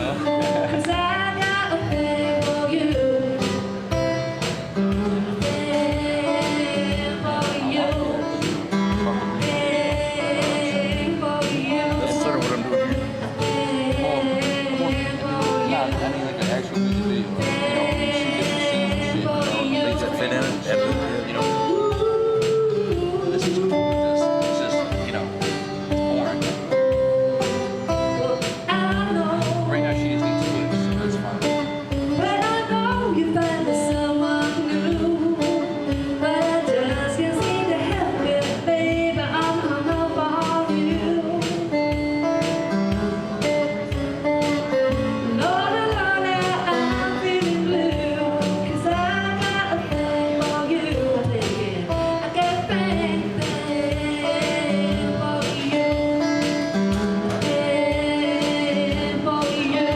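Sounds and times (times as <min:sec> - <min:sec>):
woman singing: 0:00.0 - 0:24.6, 0:26.4 - 0:59.9
strummed guitar: 0:00.0 - 0:59.9.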